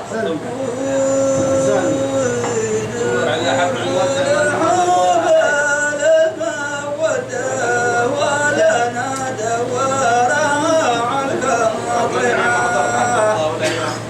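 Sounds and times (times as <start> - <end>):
man singing ornamented melody: 0.1 - 14.0.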